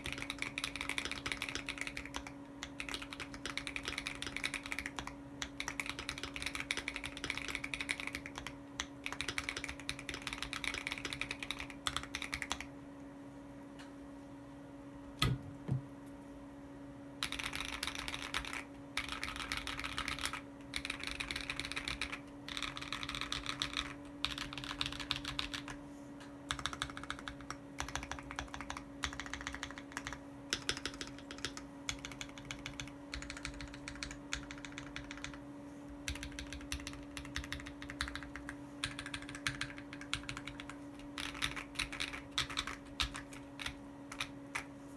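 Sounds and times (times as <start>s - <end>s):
mechanical keyboard typing: 0.0s - 12.7s, 17.2s - 25.8s, 26.5s - 35.4s, 36.0s - 44.7s
steady low hum: 0.0s - 44.9s.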